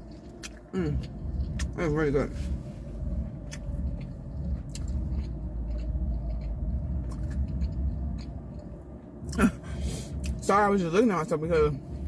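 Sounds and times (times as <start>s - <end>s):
crunchy chewing: 0.0s - 11.4s
steady low rumble: 0.0s - 12.0s.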